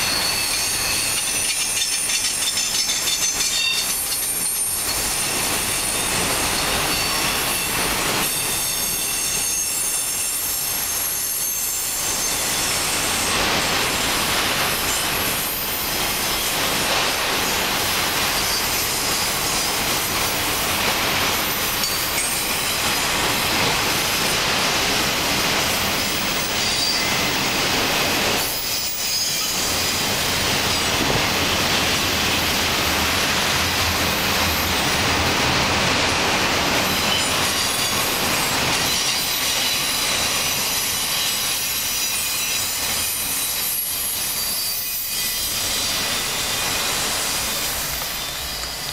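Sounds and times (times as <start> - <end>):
train wheels running on rails: 0.0 - 48.9.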